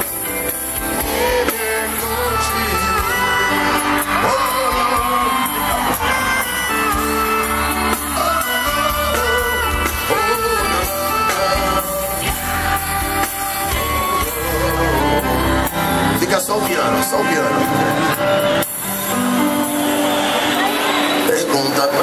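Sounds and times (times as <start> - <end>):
gospel band with singing: 0.0 - 22.0.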